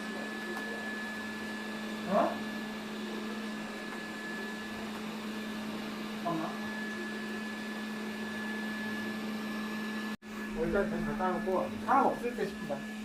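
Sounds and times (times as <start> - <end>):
robot vacuum motor hum: 0.0 - 13.0.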